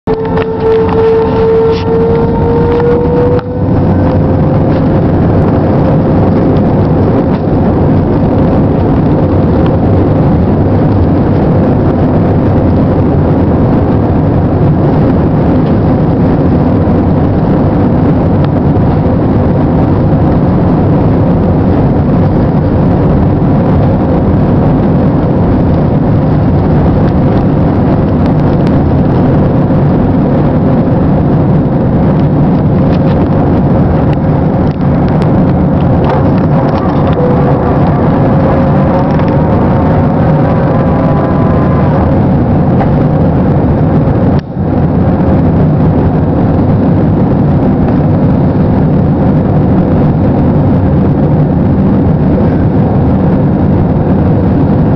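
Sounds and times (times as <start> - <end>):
jet engine whine: 0.0 - 54.9
jet engines roaring: 0.0 - 54.9.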